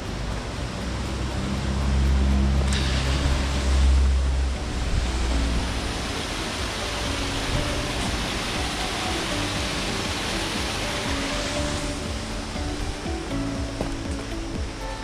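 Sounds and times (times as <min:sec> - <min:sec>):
deep low rumble: 0:00.0 - 0:15.0
rushing falling water: 0:00.0 - 0:15.0.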